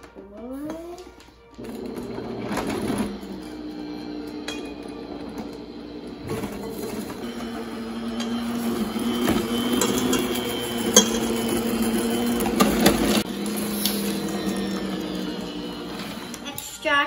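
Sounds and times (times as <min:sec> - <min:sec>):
stand mixer motor hum: 0:01.6 - 0:16.7.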